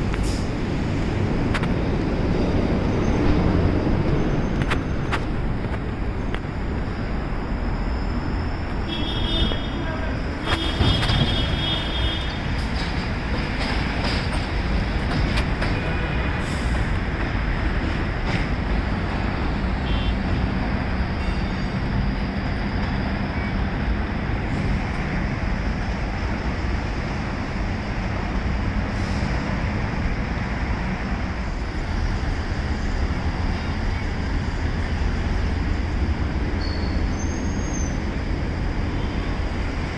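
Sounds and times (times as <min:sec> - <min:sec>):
subway train rumbling: 0:00.0 - 0:39.9.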